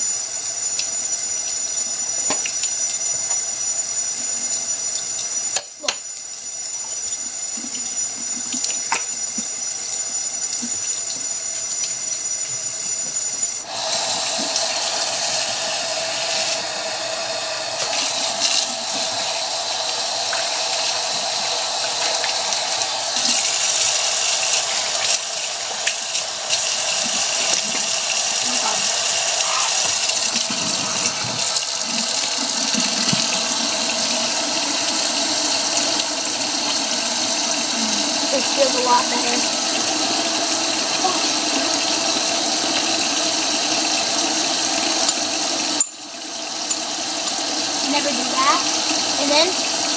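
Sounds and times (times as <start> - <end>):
water running into sink: 0.0 - 49.9
kitchen tap turned on: 2.2 - 3.4, 6.8 - 16.7, 17.7 - 49.9.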